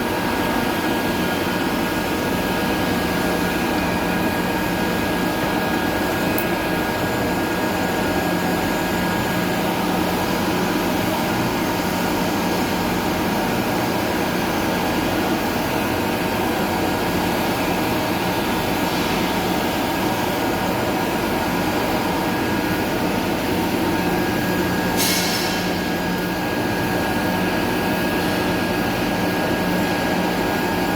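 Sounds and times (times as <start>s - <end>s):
welding arc hum and hiss: 0.0s - 30.9s.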